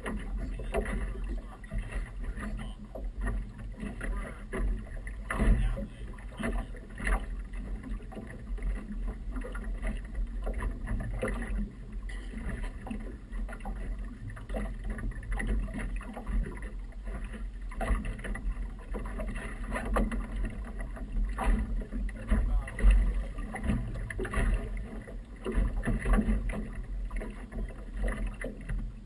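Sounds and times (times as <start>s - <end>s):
water slapping against boat hull: 0.0s - 29.0s.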